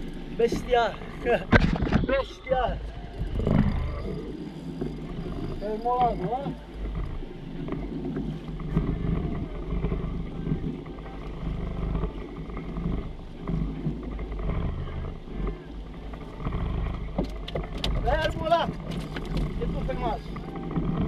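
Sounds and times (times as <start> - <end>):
outboard motor running: 0.0 - 21.0
wind and water noise: 0.0 - 21.0.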